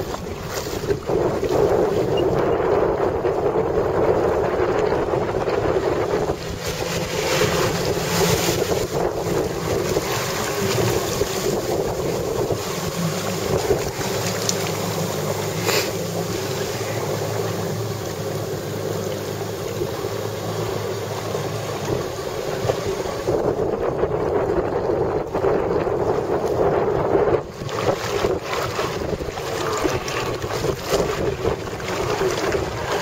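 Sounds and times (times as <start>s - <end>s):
jet ski engine running: 0.0s - 33.0s
water splashing: 0.0s - 33.0s
wind buffeting microphone: 0.0s - 33.0s.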